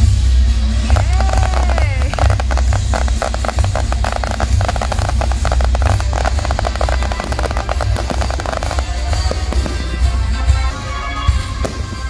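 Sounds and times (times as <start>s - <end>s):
fireworks crackling and popping: 0.4s - 12.0s.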